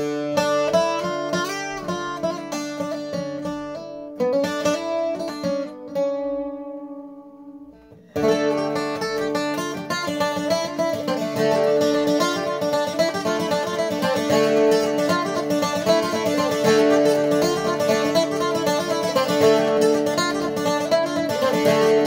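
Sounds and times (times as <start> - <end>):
guitar bouzouki picking: 0.0 - 22.0.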